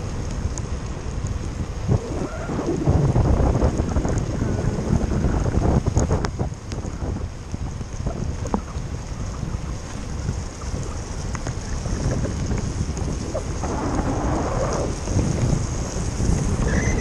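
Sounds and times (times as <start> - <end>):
tyre hiss on wet asphalt: 0.0 - 17.0
wind rumbling on microphone: 0.0 - 17.0.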